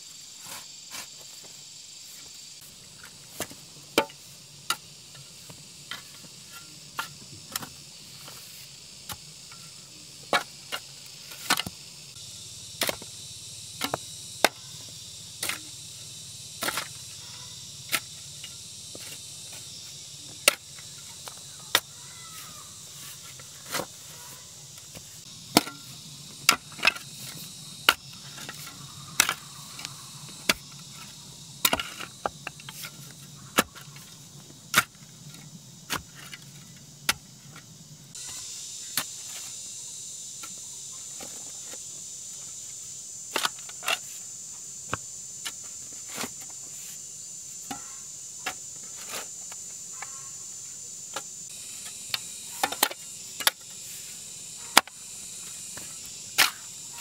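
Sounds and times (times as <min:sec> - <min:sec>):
high-pitched insect drone: 0:00.0 - 0:57.0.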